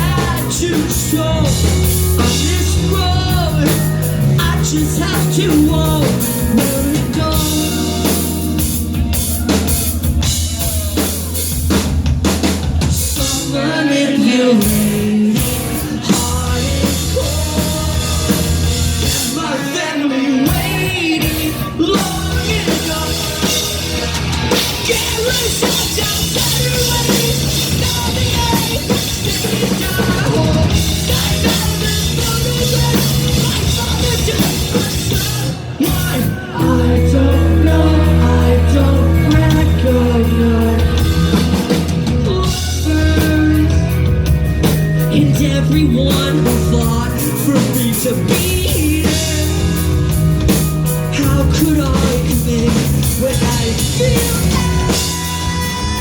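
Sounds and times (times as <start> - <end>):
bass guitar: 0.0 - 56.0
distorted guitars: 0.0 - 56.0
drums: 0.0 - 56.0.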